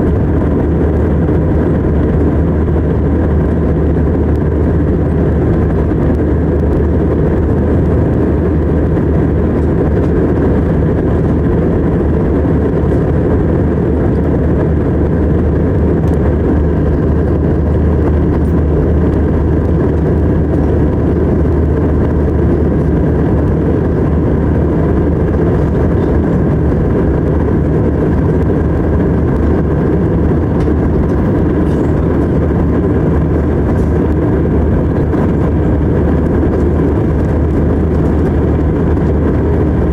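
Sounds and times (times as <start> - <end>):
jet cabin rumble: 0.0 - 39.9
steady low hum: 0.0 - 39.9.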